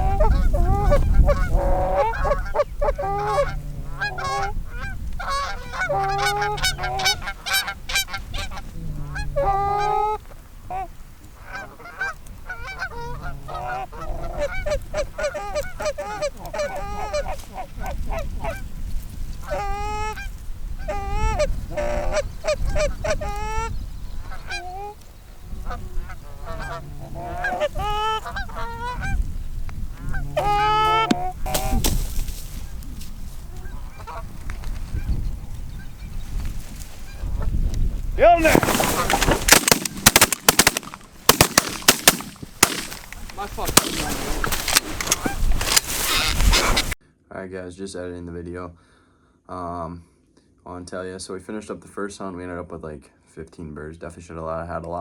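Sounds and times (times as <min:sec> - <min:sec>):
geese honking and clucking: 0:00.0 - 0:37.6, 0:38.2 - 0:47.0.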